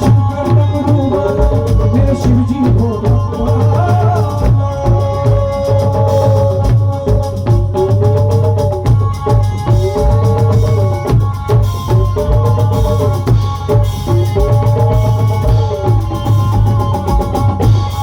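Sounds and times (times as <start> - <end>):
live band playing devotional music: 0.0 - 18.0
steady drum beat: 0.0 - 18.0.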